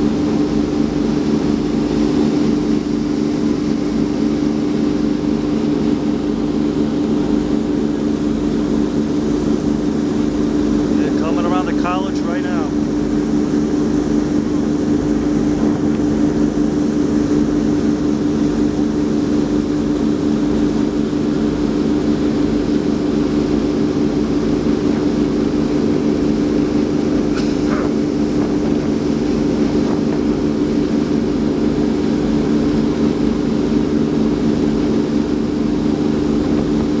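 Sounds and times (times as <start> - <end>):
boat engines droning: 0.0 - 37.0.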